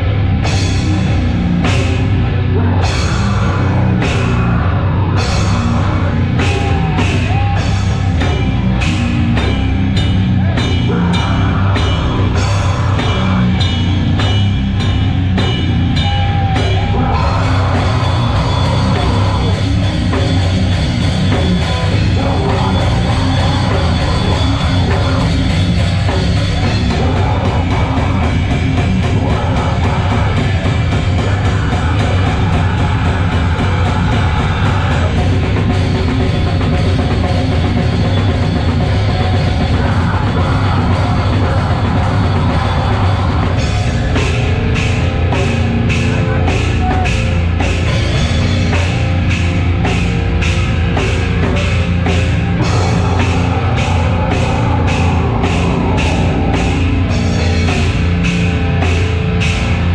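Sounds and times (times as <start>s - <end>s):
heavy metal band playing: 0.0s - 59.9s.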